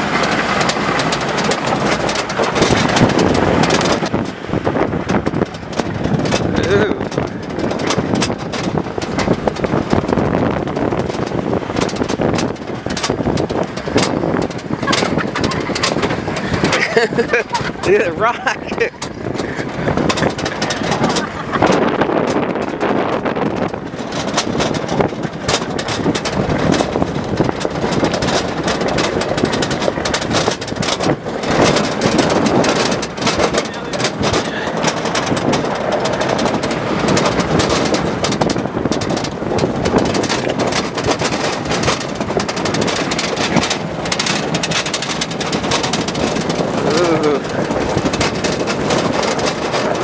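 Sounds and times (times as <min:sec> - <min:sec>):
rattling and knocks: 0:00.0 - 0:50.0
vehicle engine and tyre noise: 0:00.0 - 0:50.0
wind rumbling on microphone: 0:00.0 - 0:50.0.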